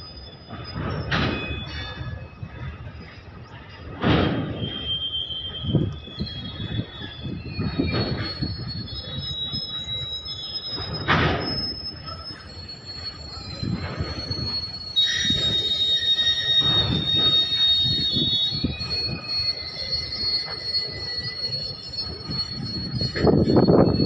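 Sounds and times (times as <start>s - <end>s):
low train rumble: 0.0s - 24.0s
train wheels squealing: 0.0s - 24.0s.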